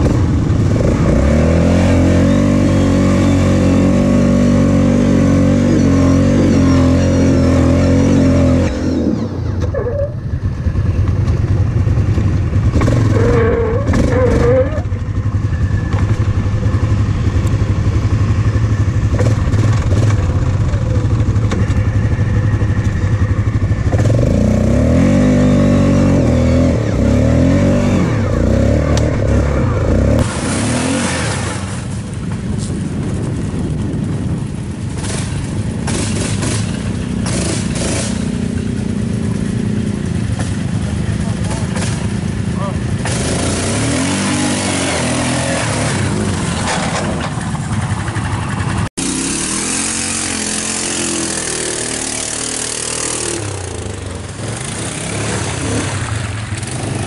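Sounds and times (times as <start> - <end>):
engine revving: 0.0 - 32.7, 34.9 - 57.0
atv engines in mud: 0.0 - 57.0.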